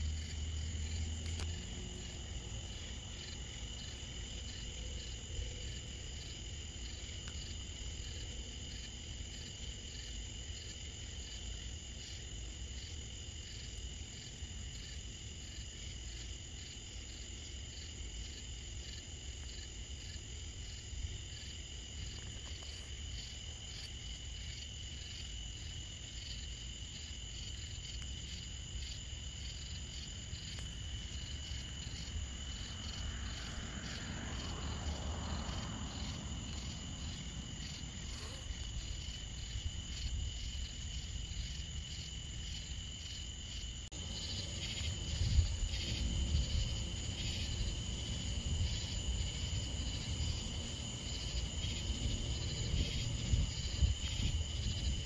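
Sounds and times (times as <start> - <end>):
night insects chirring: 0.0 - 55.0.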